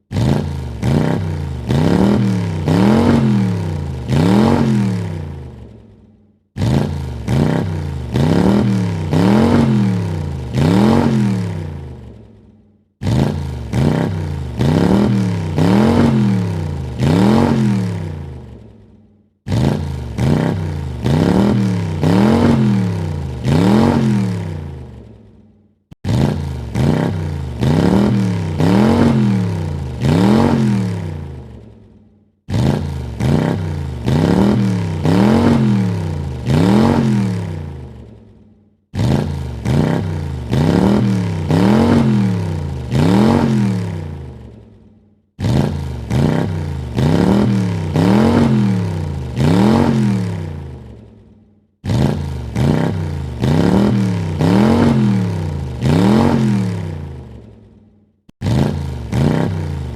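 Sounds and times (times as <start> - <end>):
car engine revving: 0.0 - 5.8, 6.6 - 12.3, 13.0 - 18.8, 19.5 - 25.1, 26.0 - 31.7, 32.5 - 38.2, 38.9 - 44.6, 45.4 - 51.0, 51.8 - 57.5, 58.3 - 59.9.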